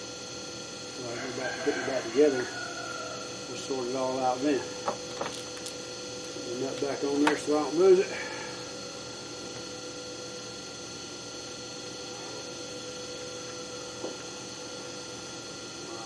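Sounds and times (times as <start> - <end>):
steady hum of fixed tones: 0.0 - 16.0.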